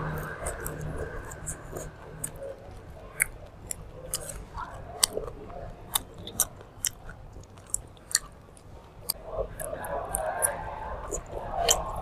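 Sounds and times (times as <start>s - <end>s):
chewing crunchy grilled meat: 0.0s - 12.0s.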